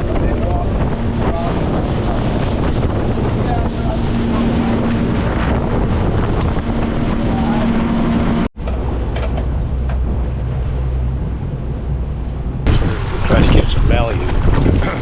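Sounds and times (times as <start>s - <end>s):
boat engine running: 0.0s - 15.0s
deep engine rumble: 0.0s - 15.0s
water rushing past: 0.0s - 15.0s
wind buffeting microphone: 0.0s - 15.0s.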